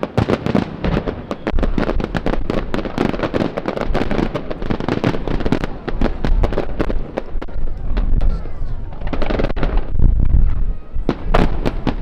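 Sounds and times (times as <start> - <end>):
fireworks bangs and cracks: 0.0 - 12.0
low rumbling boom: 0.8 - 12.0.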